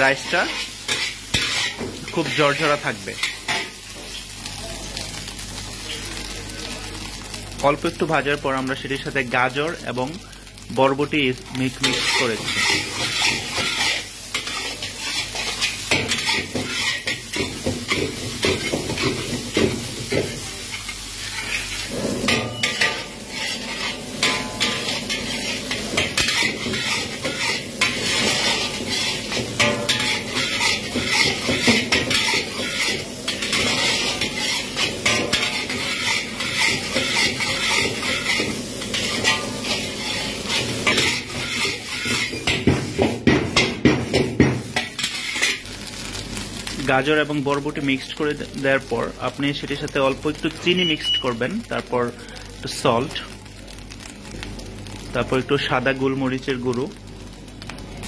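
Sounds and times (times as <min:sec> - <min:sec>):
rice sizzling in a wok: 0:00.0 - 0:58.0.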